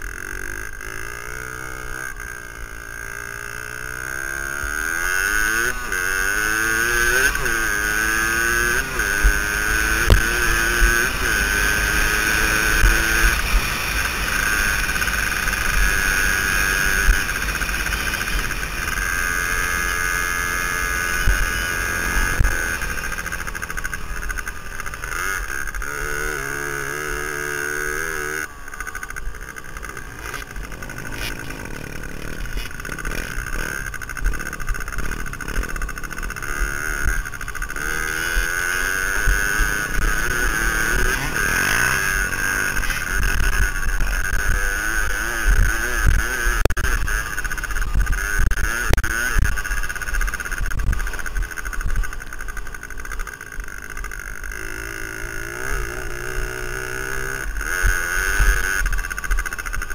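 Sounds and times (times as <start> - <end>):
two-stroke motorcycle engine: 0.0 - 59.9.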